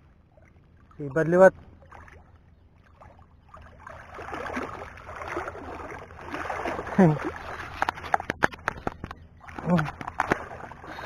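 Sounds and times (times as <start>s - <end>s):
sea water splashing: 0.0s - 11.0s.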